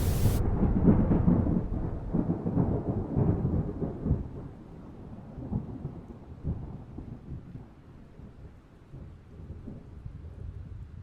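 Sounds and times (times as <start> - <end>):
muffled crackling thunder: 0.0 - 10.8.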